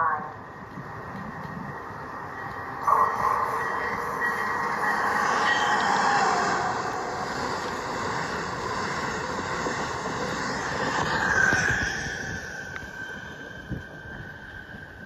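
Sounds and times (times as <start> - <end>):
faint train whine: 0.0 - 15.0
train rushing past: 0.0 - 15.0.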